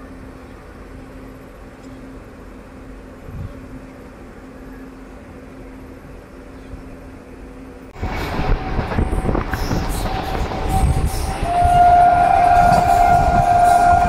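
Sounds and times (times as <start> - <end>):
train low hum: 0.0 - 14.0
train running noise: 0.0 - 14.0.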